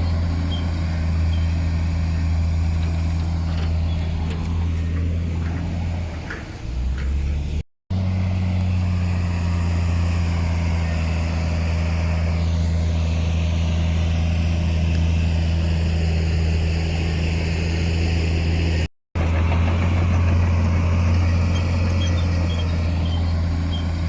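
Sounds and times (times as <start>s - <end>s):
heavy diesel engine humming: 0.0s - 24.0s.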